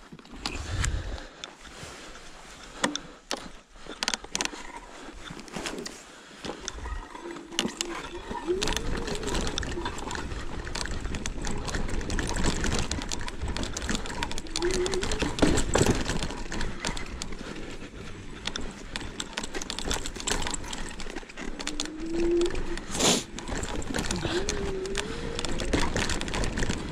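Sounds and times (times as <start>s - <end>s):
scooter frame rattling and knocking: 2.7s - 26.9s.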